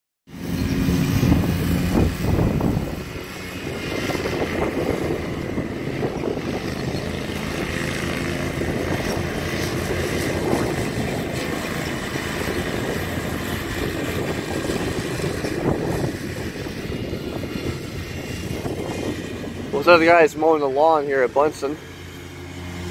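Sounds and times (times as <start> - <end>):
riding lawn mower engine: 0.3 - 22.9.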